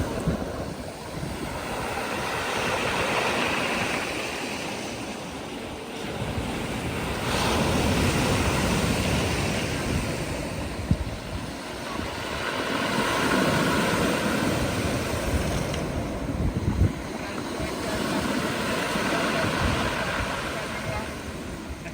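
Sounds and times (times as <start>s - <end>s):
surf washing onto beach: 0.0s - 21.9s.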